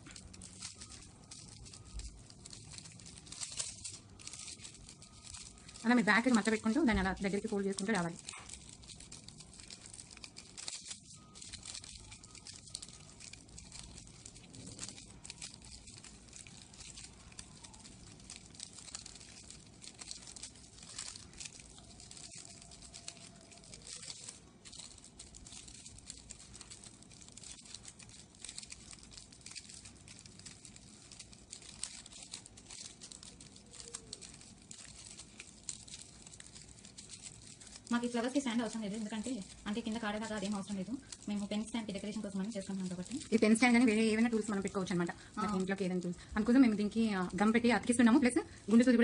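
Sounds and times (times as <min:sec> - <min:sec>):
paper crinkling: 0:00.0 - 0:49.0.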